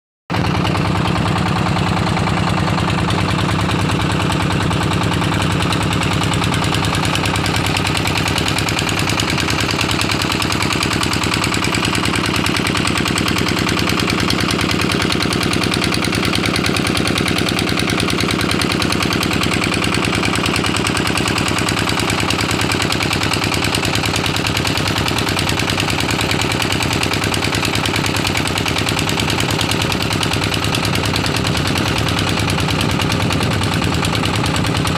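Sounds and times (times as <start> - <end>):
diesel engine knocking: 0.3 - 34.9.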